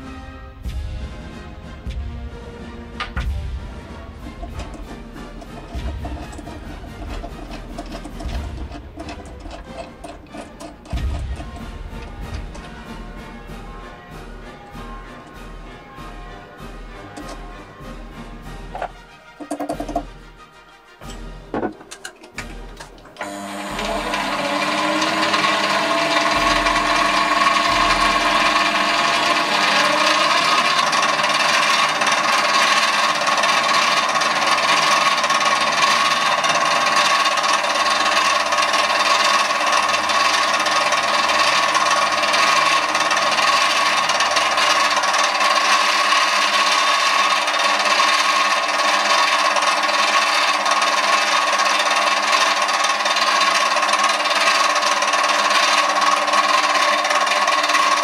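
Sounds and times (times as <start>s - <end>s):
lathe motor whirring: 0.0s - 58.0s.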